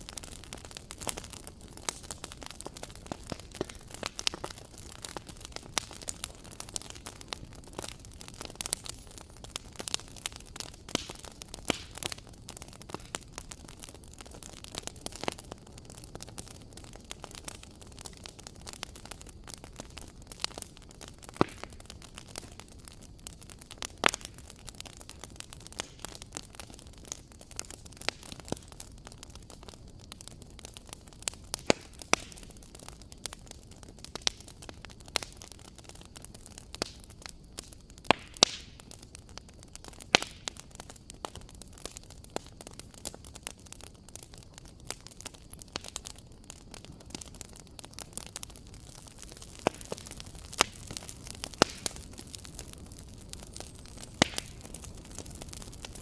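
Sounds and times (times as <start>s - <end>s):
fireplace fire crackling: 0.0s - 56.0s
loud fire pops: 0.0s - 56.0s.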